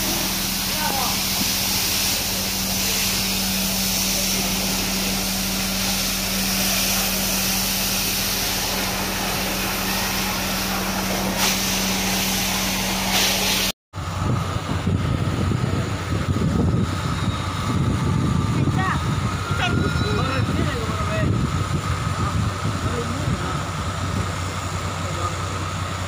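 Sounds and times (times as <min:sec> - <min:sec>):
fire hose spraying water: 0:00.0 - 0:26.0
pump engine droning: 0:00.0 - 0:26.0.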